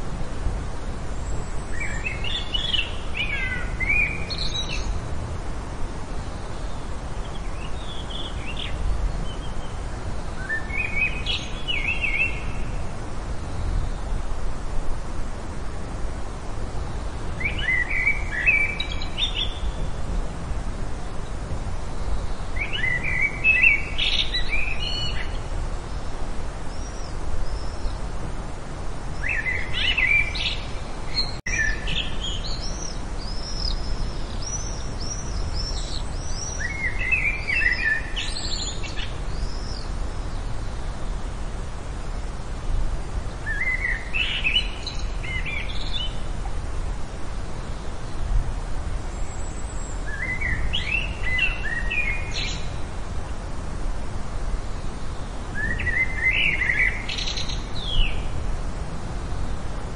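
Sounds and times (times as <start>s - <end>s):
songbirds chirping and warbling: 0.8s - 59.9s.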